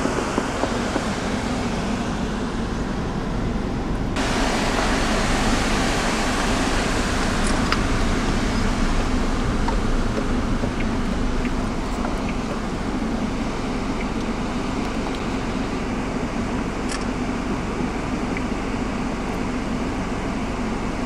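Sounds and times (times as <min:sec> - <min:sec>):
car engine: 0:00.0 - 0:21.0
gravel road noise hiss: 0:00.0 - 0:21.0.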